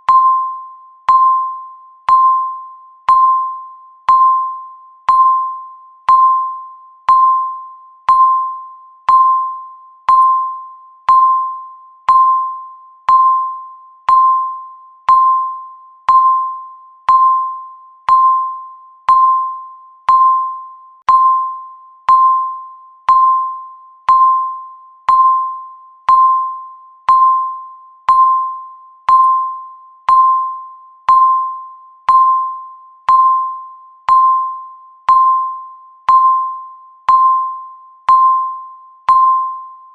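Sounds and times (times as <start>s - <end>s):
timer electronic beeps: 0.0s - 39.9s.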